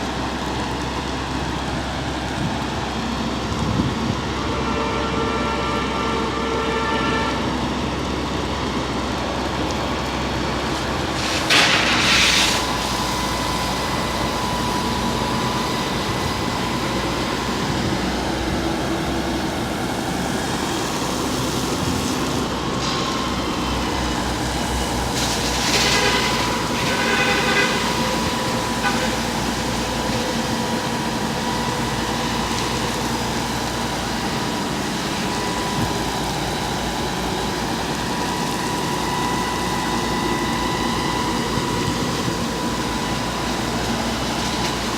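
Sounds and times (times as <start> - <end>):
fire truck engine running: 0.0 - 44.9.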